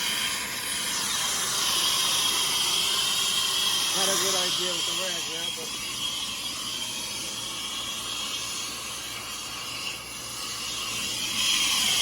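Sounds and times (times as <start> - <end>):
soldering torch hissing: 0.0 - 12.0.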